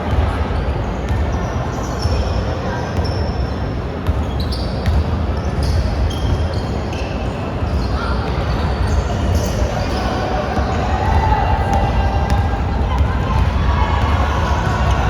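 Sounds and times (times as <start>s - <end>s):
sneakers squeaking: 0.1s - 15.0s.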